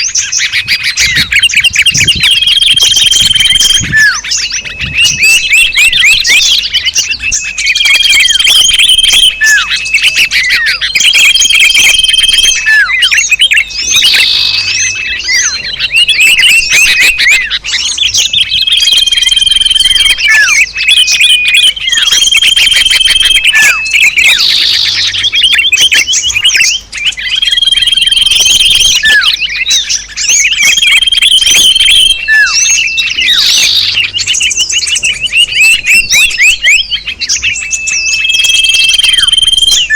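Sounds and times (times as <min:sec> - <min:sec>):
bird whistles: 0:00.0 - 0:39.9
small birds chirping: 0:00.0 - 0:39.9.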